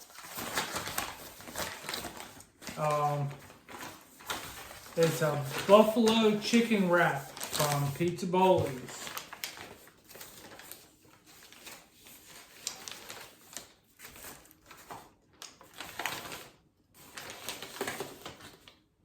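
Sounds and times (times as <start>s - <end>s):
food wrapper rustling and crinkling: 0.0s - 18.9s.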